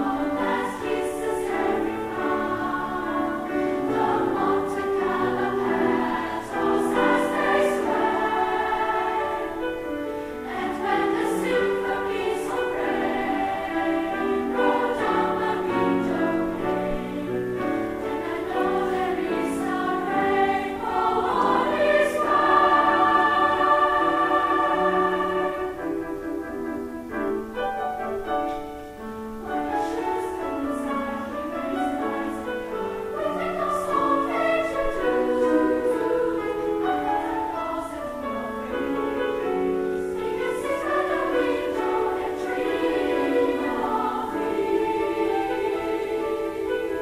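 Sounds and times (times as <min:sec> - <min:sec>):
girls' choir singing: 0:00.0 - 0:26.5, 0:28.9 - 0:47.0.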